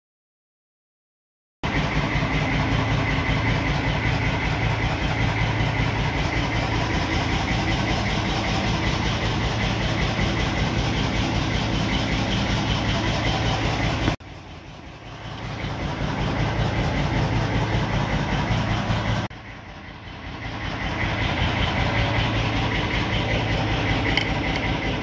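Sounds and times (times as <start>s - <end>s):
engine idling: 1.6s - 25.0s.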